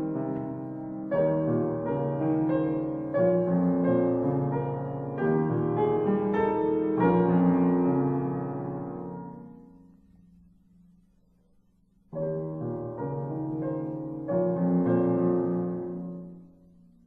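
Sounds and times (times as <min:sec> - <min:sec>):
slow gentle piano piece: 0:00.0 - 0:17.0.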